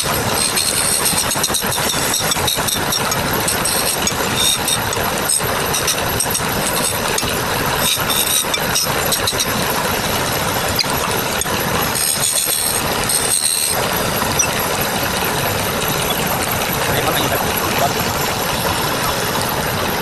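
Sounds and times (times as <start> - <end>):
turning tool squealing on wood: 0.0 - 20.0
wood lathe running: 0.0 - 20.0.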